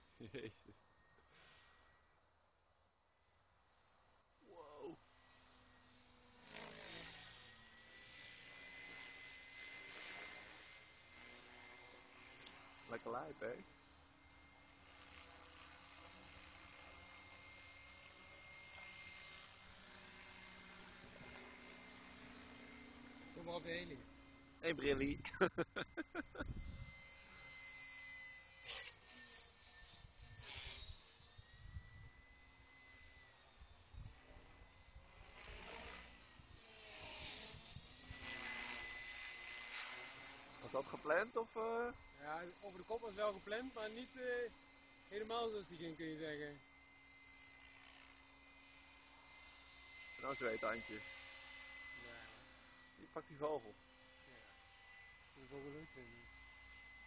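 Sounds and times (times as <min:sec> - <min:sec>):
model helicopter whine: 0:00.0 - 0:57.0.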